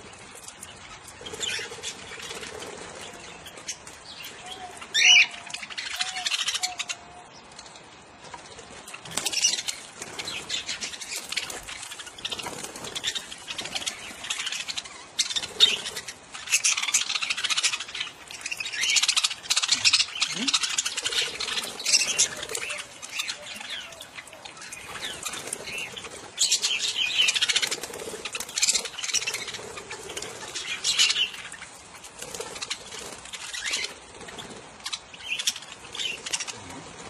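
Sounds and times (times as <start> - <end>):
budgerigars chattering and squawking: 0.0 - 7.3, 9.0 - 37.0.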